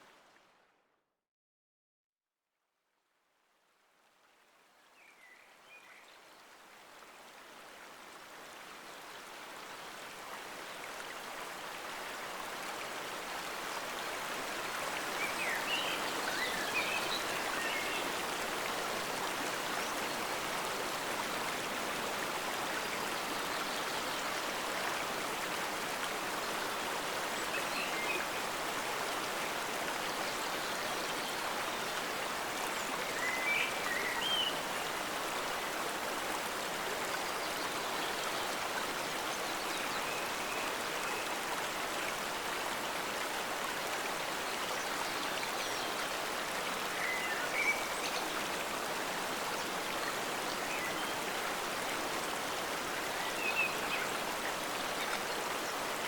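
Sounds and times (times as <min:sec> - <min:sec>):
stream water flowing: 0:03.9 - 0:56.0.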